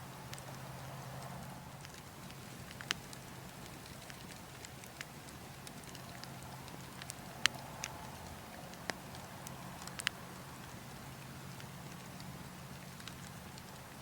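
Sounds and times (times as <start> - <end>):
burning logs crackling: 0.0 - 14.0
sharp pops from fire: 0.2 - 14.0.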